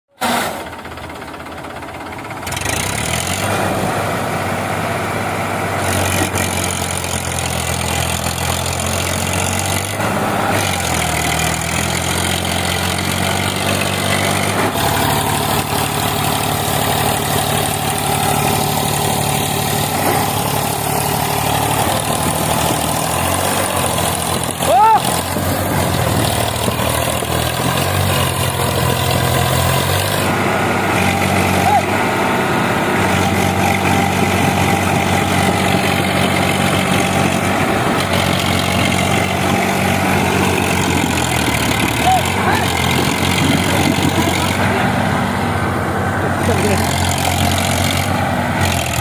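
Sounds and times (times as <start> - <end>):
diesel tractor engine running: 0.1 - 49.0.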